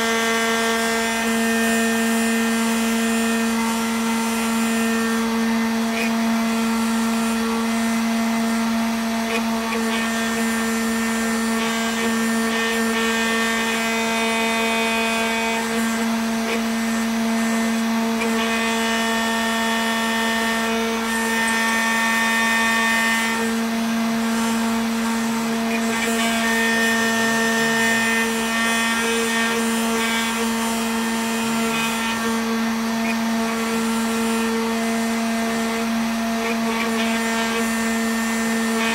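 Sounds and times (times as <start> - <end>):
engraving bit carving wax: 0.0 - 38.9
machine spindle whining: 0.0 - 38.9.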